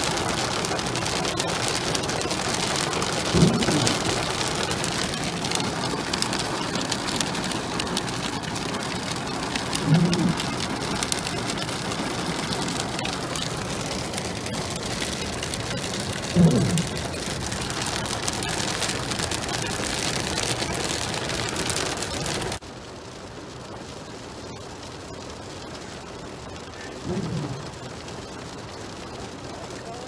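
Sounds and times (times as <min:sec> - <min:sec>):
hail and rain drumming on car roof: 0:00.0 - 0:30.0.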